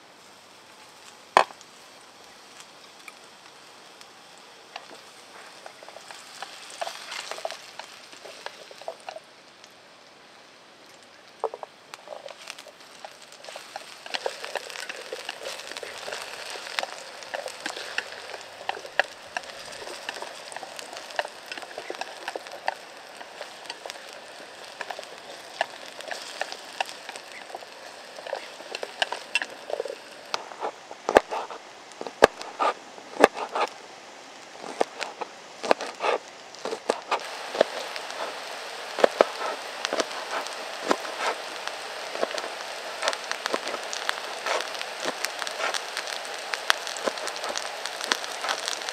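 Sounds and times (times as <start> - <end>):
wood fire crackling: 0.0 - 48.9
loud fire pops: 0.7 - 9.8, 11.0 - 48.9.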